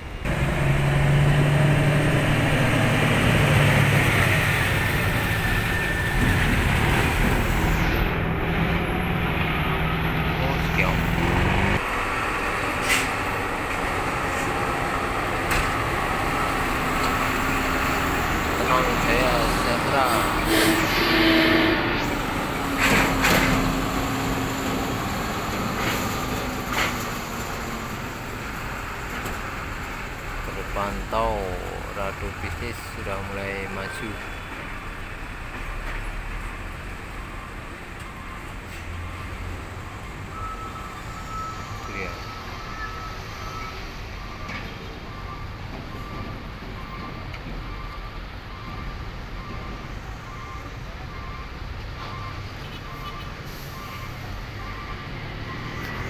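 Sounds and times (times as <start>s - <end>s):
diesel truck engine rumbling: 0.0s - 56.0s.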